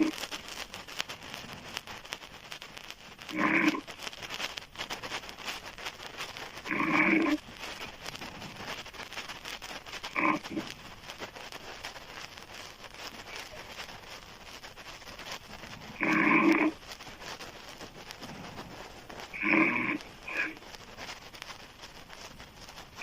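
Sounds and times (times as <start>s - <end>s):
quiet breathing: 0.0s - 23.0s.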